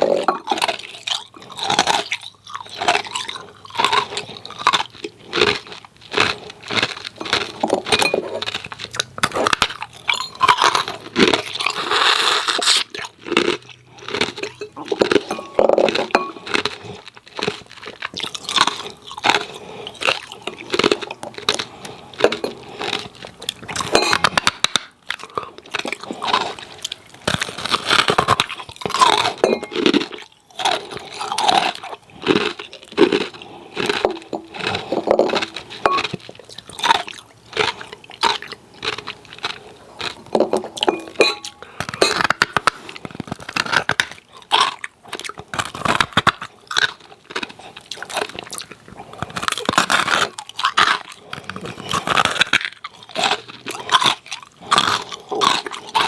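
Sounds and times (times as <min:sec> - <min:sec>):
ice cubes being chewed: 0:00.0 - 0:56.0.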